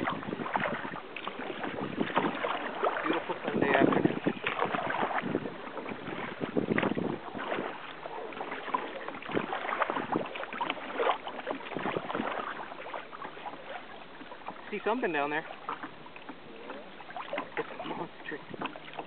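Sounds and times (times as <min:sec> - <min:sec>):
wind noise on microphone: 0:00.0 - 0:12.7, 0:16.4 - 0:19.0
water splashing against kayak hull: 0:00.0 - 0:19.0.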